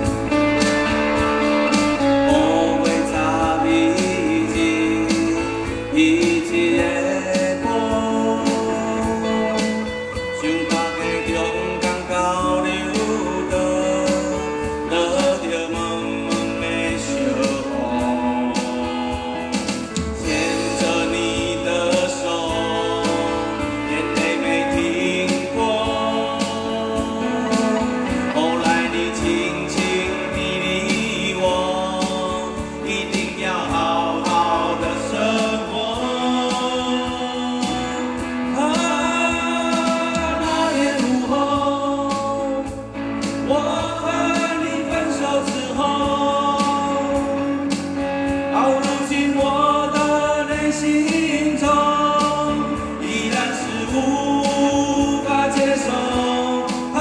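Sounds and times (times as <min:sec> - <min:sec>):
acoustic guitars: 0:00.0 - 0:57.0
electric bass guitar: 0:00.0 - 0:57.0
men singing: 0:00.0 - 0:57.0.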